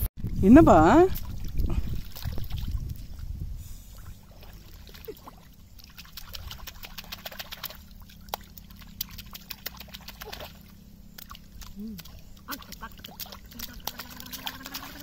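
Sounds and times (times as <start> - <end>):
hands splashing in water: 1.2 - 2.8, 4.3 - 15.0.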